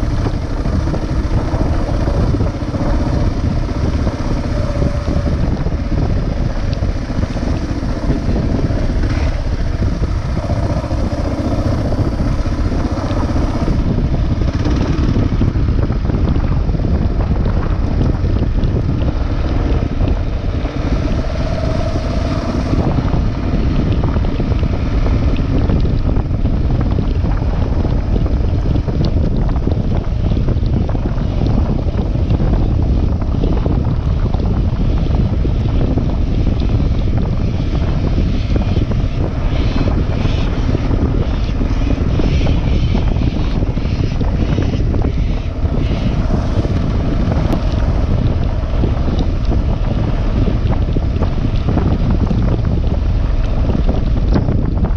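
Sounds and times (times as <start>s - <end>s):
motorcycle engine running: 0.0s - 54.9s
wind buffeting on microphone: 0.0s - 54.9s.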